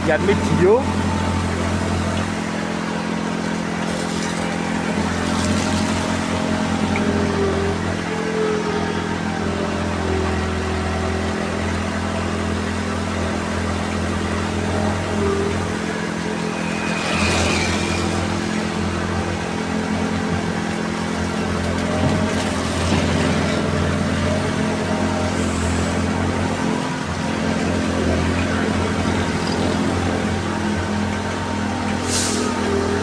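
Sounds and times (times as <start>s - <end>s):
heavy machine engine running: 0.0s - 33.0s.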